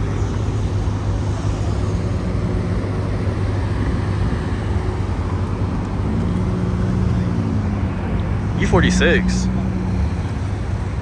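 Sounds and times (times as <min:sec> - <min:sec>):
car engines idling: 0:00.0 - 0:11.0.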